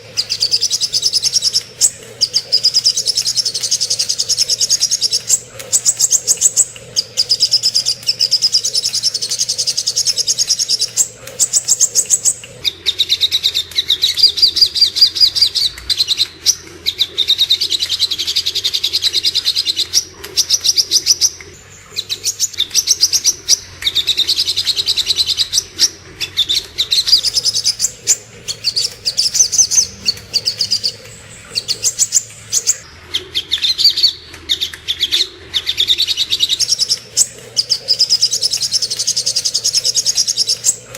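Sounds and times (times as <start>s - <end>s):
bird singing fast trills: 0.0s - 40.9s.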